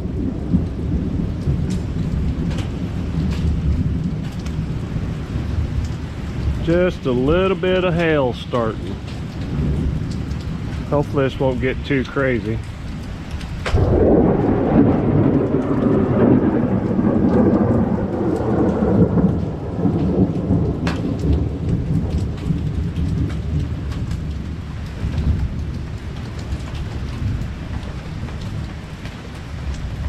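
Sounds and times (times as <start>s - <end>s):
rolling thunder rumble: 0.0s - 30.0s
steady rain: 0.0s - 30.0s
small hail ticking: 5.5s - 30.0s.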